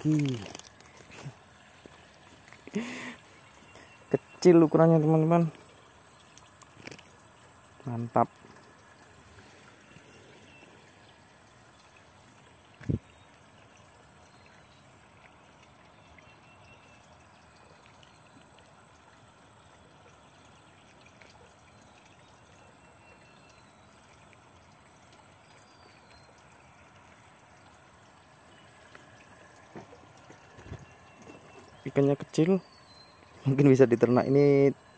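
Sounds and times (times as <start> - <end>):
outdoor background hiss: 0.0 - 34.9.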